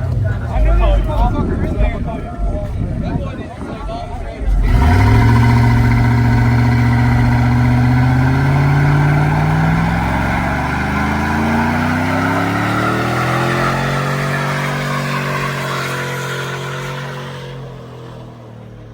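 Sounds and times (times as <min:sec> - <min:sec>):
dense rushing noise: 0:00.0 - 0:16.9
truck engine revving high: 0:00.0 - 0:18.9.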